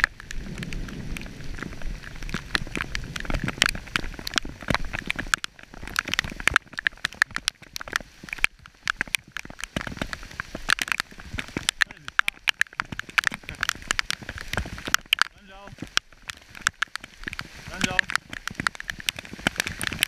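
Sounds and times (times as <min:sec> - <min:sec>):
raindrops tapping camera: 0:00.0 - 0:20.0
rainfall hiss: 0:00.0 - 0:20.0.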